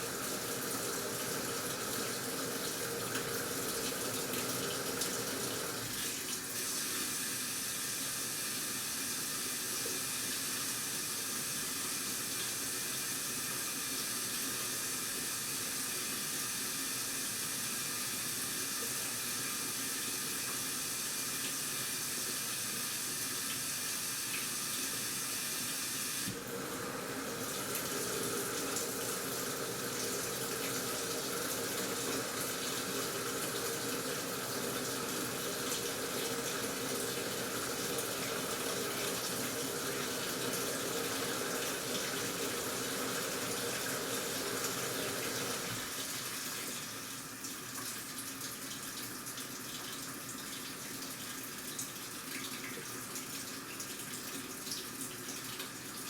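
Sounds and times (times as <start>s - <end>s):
washing machine filling with water: 0.0s - 56.0s.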